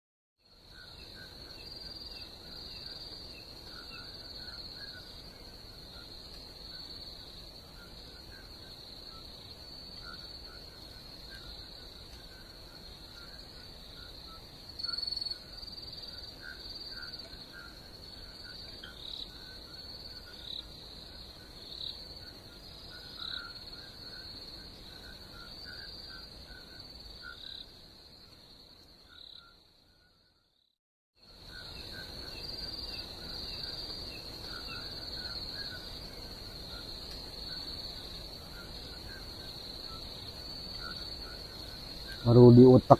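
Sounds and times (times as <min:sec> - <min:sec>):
crickets trilling: 0:00.4 - 0:42.9
lower insect chirping: 0:00.4 - 0:42.9.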